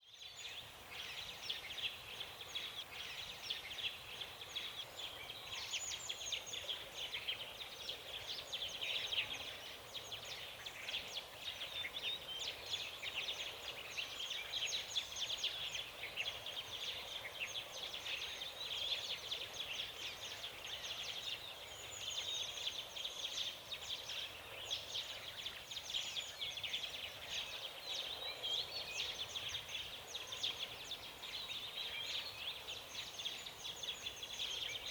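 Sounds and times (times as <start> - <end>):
forest birds chirping: 0.0 - 34.9.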